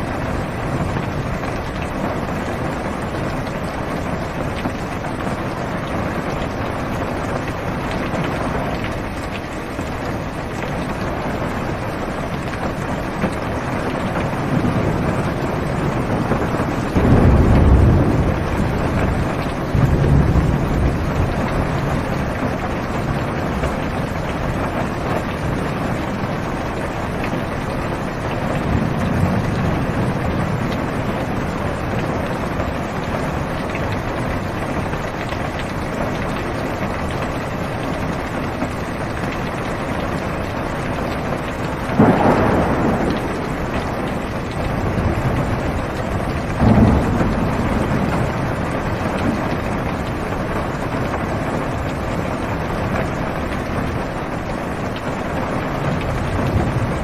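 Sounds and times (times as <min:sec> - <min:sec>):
heavy rain on car roof: 0:00.0 - 0:57.0
thunderclaps: 0:00.0 - 0:57.0.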